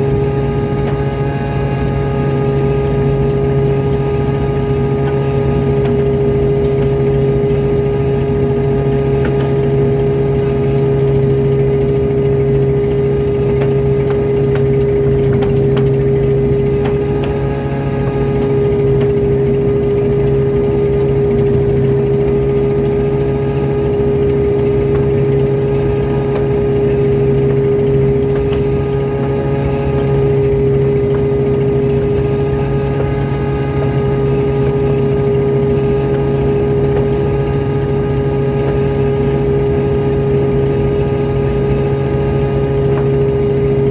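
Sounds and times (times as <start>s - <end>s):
boat engine droning: 0.0s - 43.9s.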